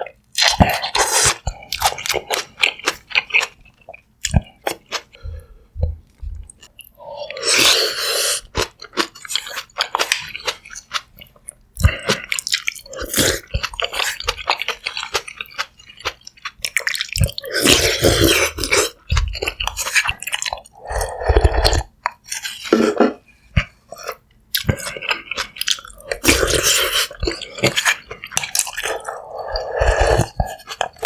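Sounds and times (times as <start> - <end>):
close chewing with mouth clicks: 0.0 - 7.7, 8.4 - 22.7, 23.5 - 31.0.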